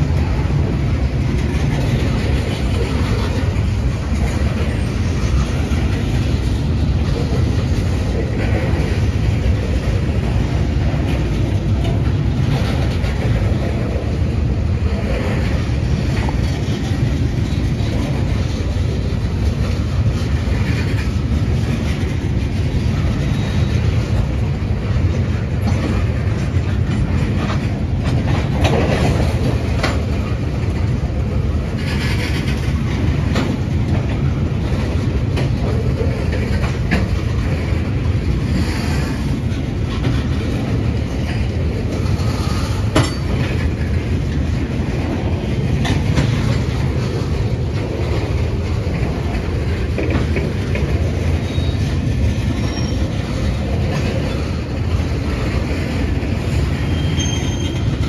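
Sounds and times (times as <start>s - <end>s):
train wheels rumbling on rail: 0.0s - 58.0s
wheels clicking and clanking: 0.0s - 58.0s.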